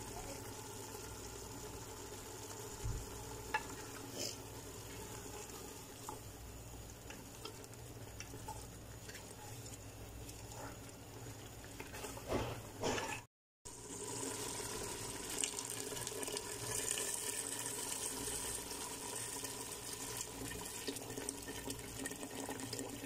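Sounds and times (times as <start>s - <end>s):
meat sizzling in sauce: 0.0s - 12.2s, 13.7s - 23.0s.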